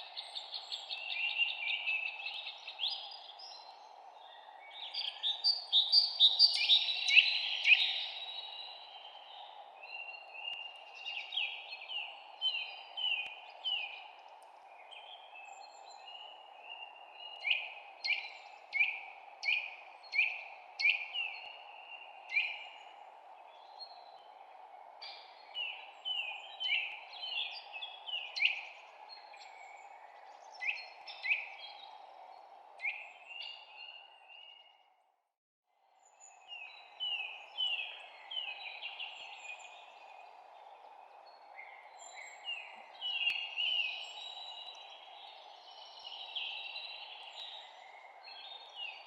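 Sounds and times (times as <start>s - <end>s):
small songbirds chirping: 0.0s - 35.0s, 35.8s - 49.0s.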